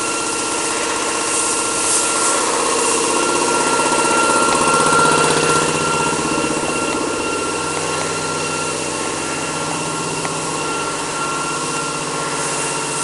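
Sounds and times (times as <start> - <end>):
constant high whine: 0.0 - 13.0
mechanical hum: 0.0 - 13.0.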